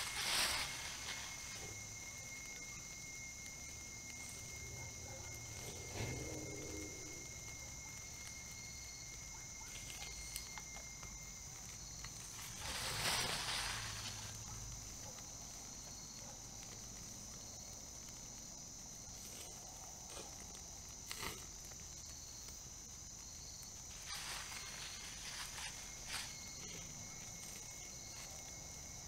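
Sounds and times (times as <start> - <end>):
night insects trilling: 0.0 - 29.0.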